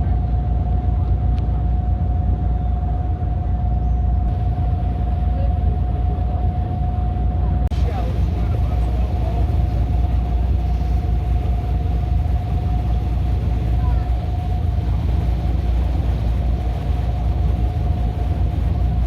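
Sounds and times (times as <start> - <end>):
boat engine rumbling: 0.0 - 19.0
steady engine whine: 0.0 - 19.0.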